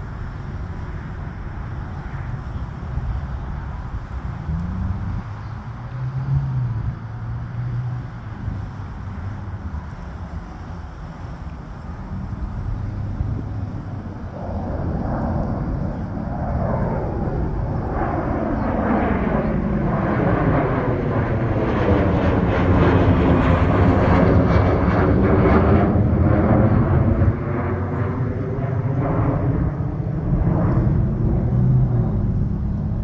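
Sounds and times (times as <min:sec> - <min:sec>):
jet passing overhead: 0:00.0 - 0:33.0.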